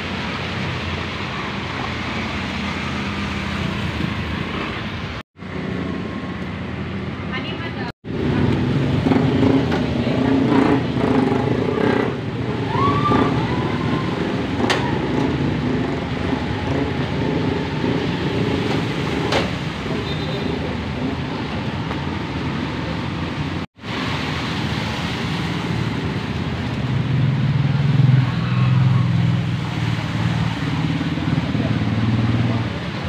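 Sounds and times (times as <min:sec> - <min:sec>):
traffic engines droning: 0:00.0 - 0:33.0.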